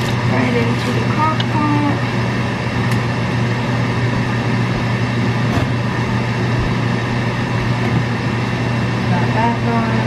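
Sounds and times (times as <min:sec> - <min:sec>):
fan running: 0:00.0 - 0:10.0.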